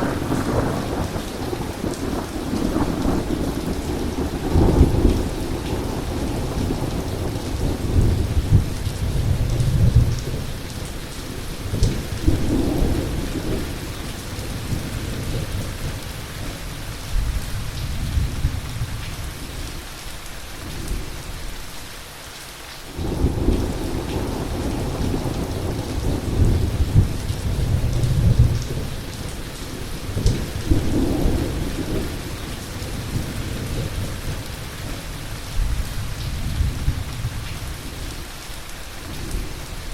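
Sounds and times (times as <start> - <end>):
thunder rumbling: 0.0 - 19.5, 22.9 - 38.1
heavy rain falling: 0.0 - 39.9.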